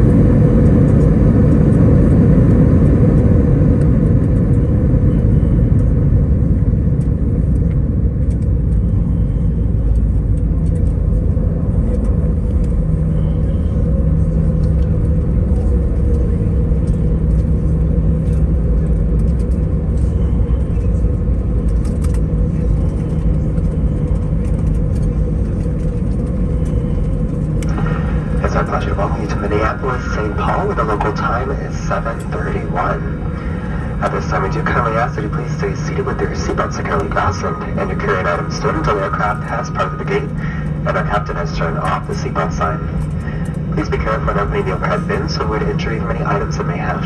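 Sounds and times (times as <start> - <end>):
aircraft cabin rumble: 0.0 - 47.0.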